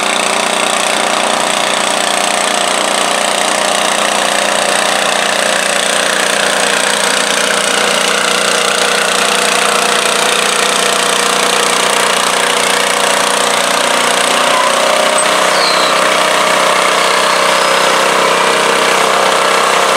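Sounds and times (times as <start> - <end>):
tractor engine running under load: 0.0 - 19.9.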